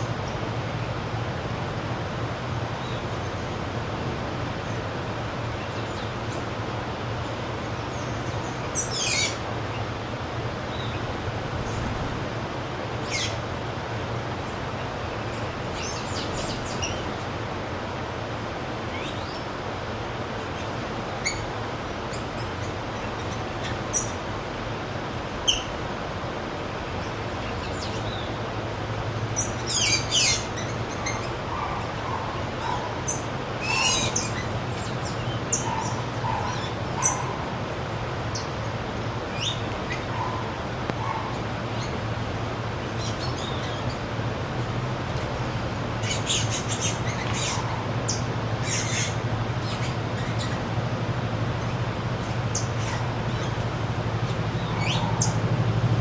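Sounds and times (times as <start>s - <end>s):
low background hum: 0.0s - 56.0s
wild birds chirping and squawking: 0.0s - 56.0s.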